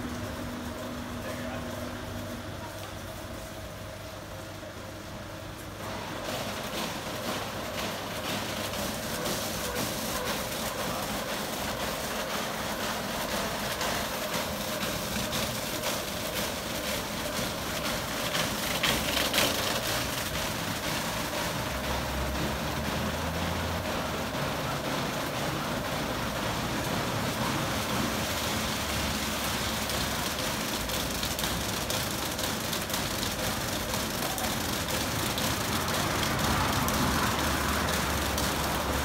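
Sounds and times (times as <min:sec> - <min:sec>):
car wash brushes spinning: 0:05.7 - 0:39.0
hiss of water spray: 0:05.8 - 0:39.0.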